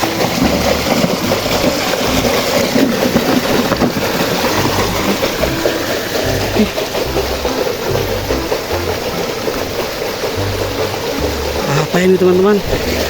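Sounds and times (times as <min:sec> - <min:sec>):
water splashing and running: 0:00.0 - 0:13.0.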